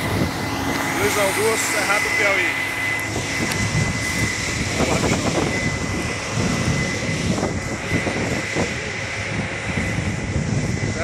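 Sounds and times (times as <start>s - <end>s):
combine harvester engine drone: 0.0s - 11.0s
constant high whine: 0.0s - 11.0s.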